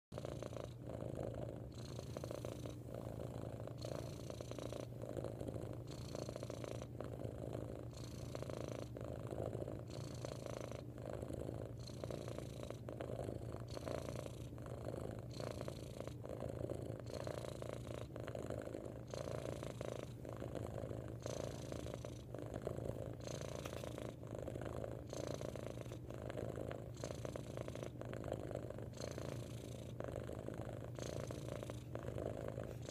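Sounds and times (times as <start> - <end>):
cat purring: 0.1 - 32.9.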